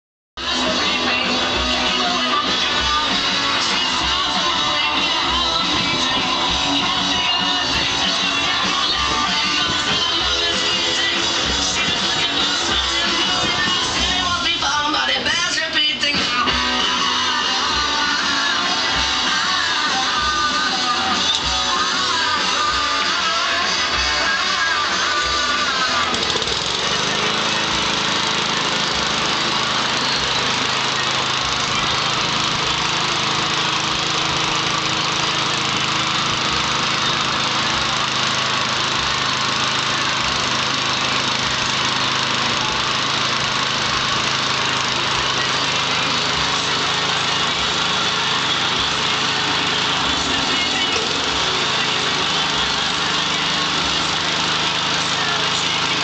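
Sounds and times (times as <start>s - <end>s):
guitar music: 0.4s - 56.0s
lawn mower engine running: 0.4s - 56.0s.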